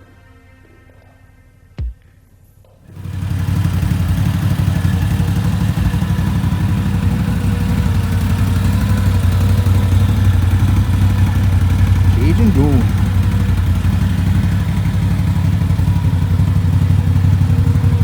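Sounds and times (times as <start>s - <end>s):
motorcycle engine running: 2.9s - 18.0s.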